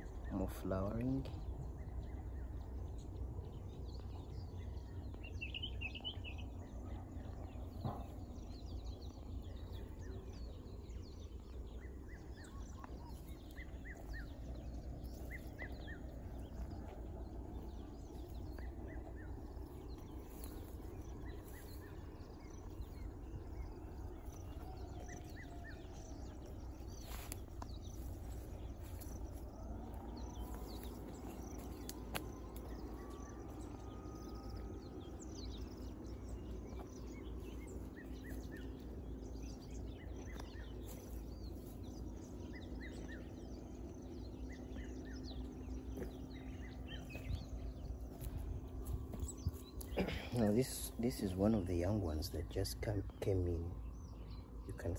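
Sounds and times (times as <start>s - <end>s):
bird chirps: 0.0s - 54.9s
steady low rumble: 0.0s - 54.9s.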